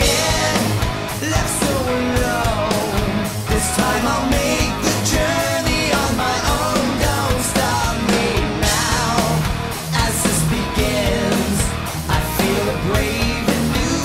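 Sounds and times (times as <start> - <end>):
bass guitar: 0.0 - 14.0
drums: 0.0 - 14.0
electric guitar: 0.0 - 14.0
person singing: 0.0 - 14.0.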